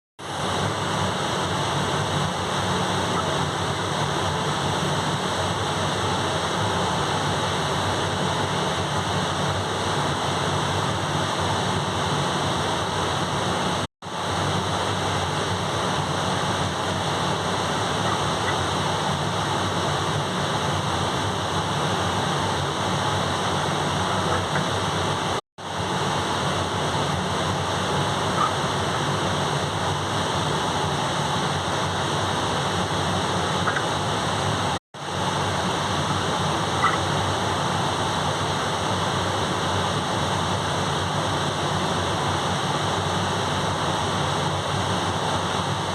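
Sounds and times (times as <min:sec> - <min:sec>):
gas boiler burners rushing: 0:00.2 - 0:45.9.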